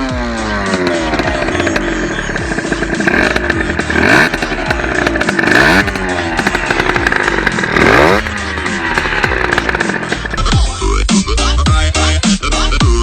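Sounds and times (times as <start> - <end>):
two-stroke motorcycle engine revving: 0.0 - 11.6.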